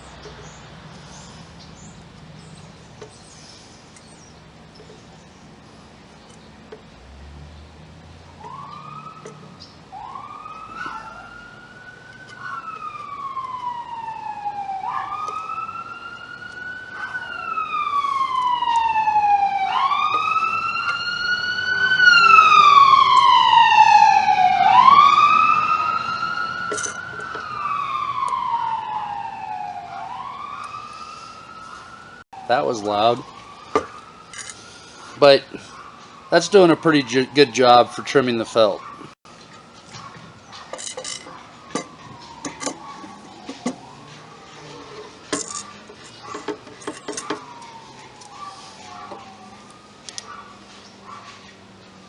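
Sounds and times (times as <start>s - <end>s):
emergency siren wailing: 8.2s - 50.8s.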